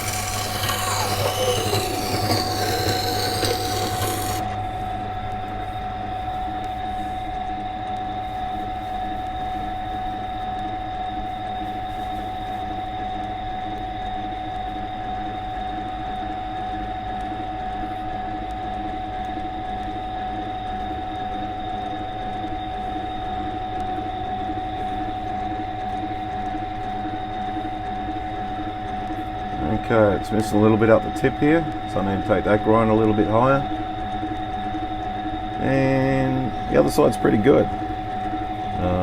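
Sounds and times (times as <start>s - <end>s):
water grinder motor hum with whine: 0.0s - 39.0s.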